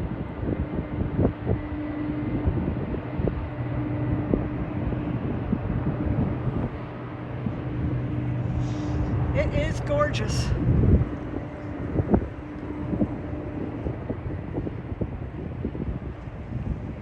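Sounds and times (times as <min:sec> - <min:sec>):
low mechanical hum: 0:00.0 - 0:17.0
outdoor rumble: 0:00.0 - 0:17.0.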